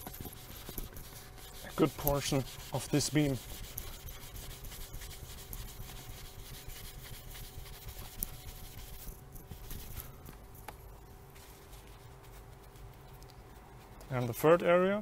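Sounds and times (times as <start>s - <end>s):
cloth rubbing and scratching: 0.0s - 14.5s.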